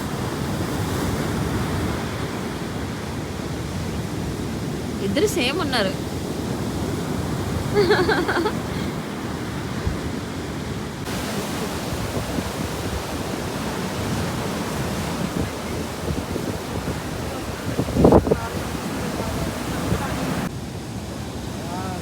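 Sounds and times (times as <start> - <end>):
wind buffeting microphone: 0.0 - 20.6
waves washing onto beach: 0.0 - 22.0.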